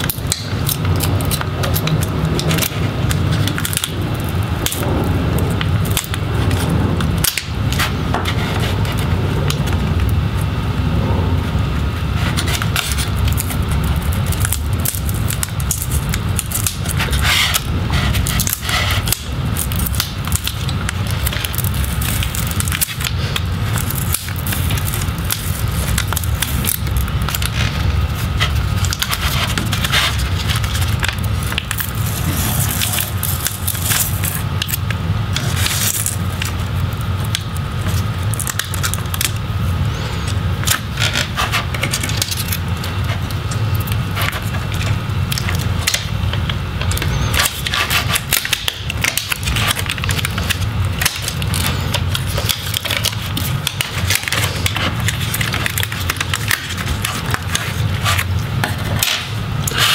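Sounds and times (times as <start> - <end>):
adhesive sheet crackling: 0.0 - 10.7, 11.4 - 59.9
steady low hum: 0.0 - 59.9.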